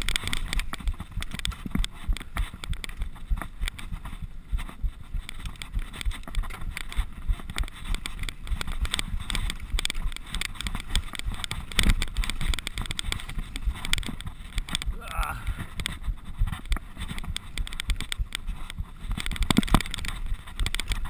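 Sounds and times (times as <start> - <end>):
bike chain and frame rattling: 0.0 - 21.0
bike tyres over dirt and roots: 0.0 - 21.0
wind rumble on microphone: 0.0 - 21.0.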